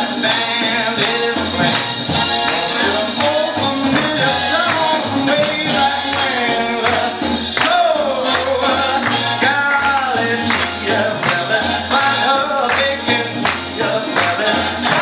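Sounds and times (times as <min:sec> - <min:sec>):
upbeat music with singing: 0:00.0 - 0:15.0.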